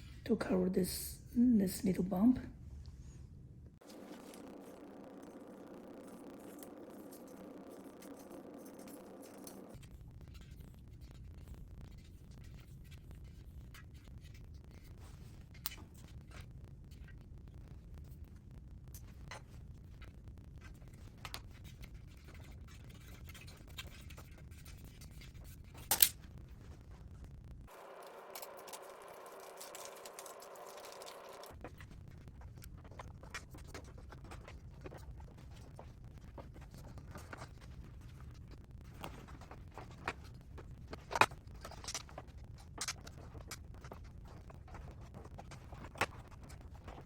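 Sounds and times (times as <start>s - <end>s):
low hum: 1.1s - 47.0s
hands scratching and clicking on wheel: 3.8s - 17.2s, 19.0s - 26.9s, 27.7s - 47.0s.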